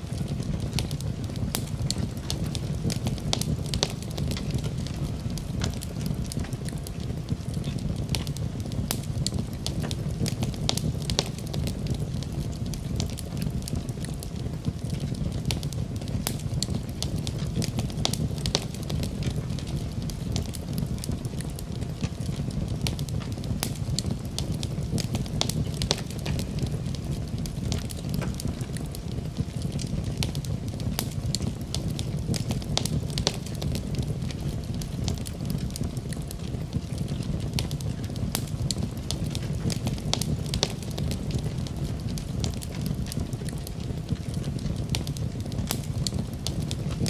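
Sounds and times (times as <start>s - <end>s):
burning wood crackling and popping: 0.0s - 47.0s
fire flames rumbling: 0.0s - 47.0s.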